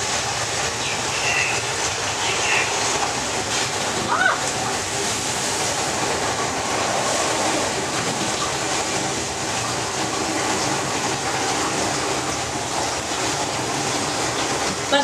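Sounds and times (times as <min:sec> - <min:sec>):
torrent of water rushing: 0:00.0 - 0:15.0.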